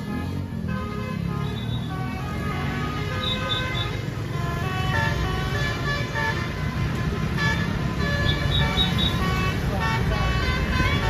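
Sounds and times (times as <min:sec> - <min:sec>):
musical bus horn melody: 0:00.0 - 0:11.0.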